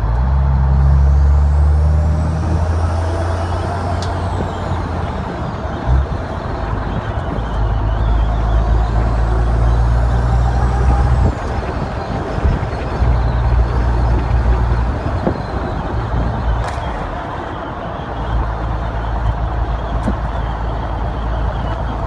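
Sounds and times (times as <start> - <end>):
diesel truck engine under load: 0.0 - 22.0
turbo whistle: 0.8 - 22.0.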